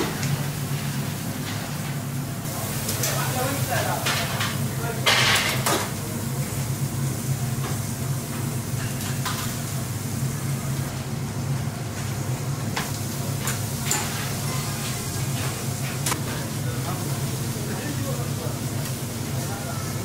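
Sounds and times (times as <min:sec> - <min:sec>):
chickens sizzling on a grill: 0:00.2 - 0:20.0.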